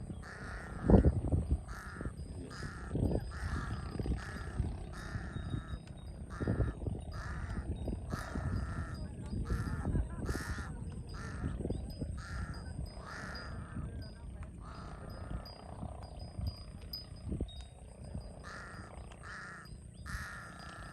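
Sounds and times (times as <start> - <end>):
crow cawing: 0.1 - 14.0, 14.6 - 15.6, 18.4 - 20.9.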